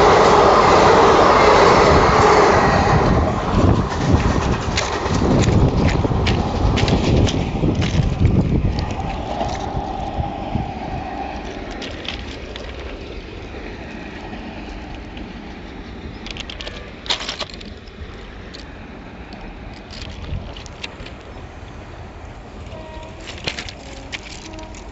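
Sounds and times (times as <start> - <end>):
train rumbling: 0.0 - 24.9
wind on microphone: 0.0 - 24.9.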